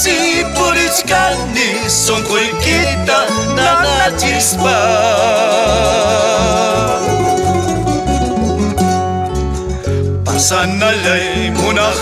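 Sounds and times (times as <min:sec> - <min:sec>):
guitar bass notes: 0:00.0 - 0:12.0
strummed mandolins: 0:00.0 - 0:12.0.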